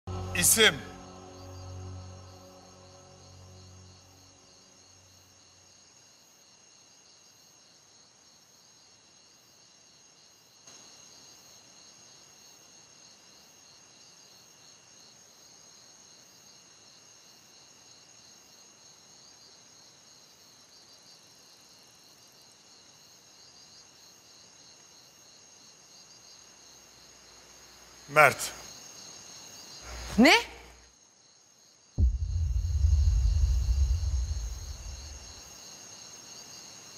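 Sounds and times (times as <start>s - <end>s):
night insects chirping: 0.1s - 36.9s.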